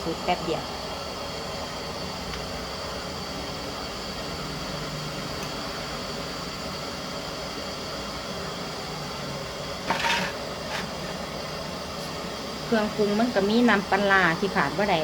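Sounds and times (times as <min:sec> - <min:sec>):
gas stove burner hissing: 0:00.0 - 0:15.0.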